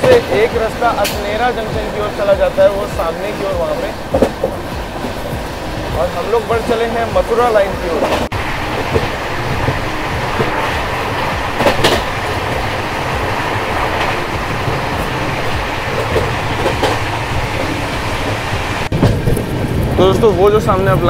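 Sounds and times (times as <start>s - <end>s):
clanks over rail joints: 0.0s - 21.0s
train wheels rumbling on rail: 0.0s - 21.0s.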